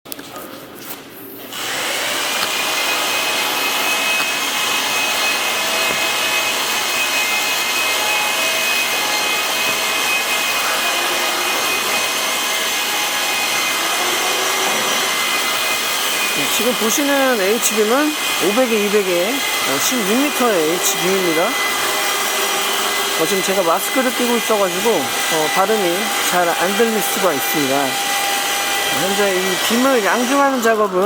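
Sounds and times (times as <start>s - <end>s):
machine motor whining: 1.5s - 31.0s.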